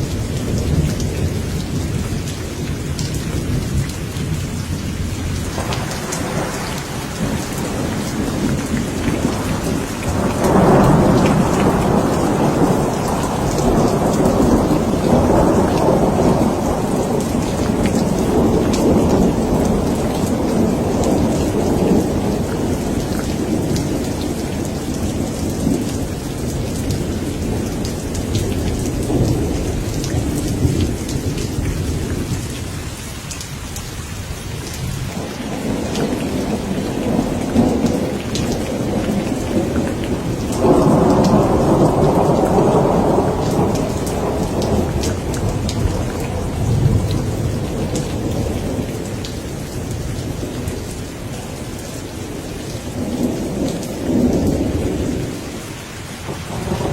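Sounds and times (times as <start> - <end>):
thunder rumbling: 0.0 - 32.9, 34.5 - 55.5, 56.2 - 56.9
rain pattering: 0.0 - 56.9.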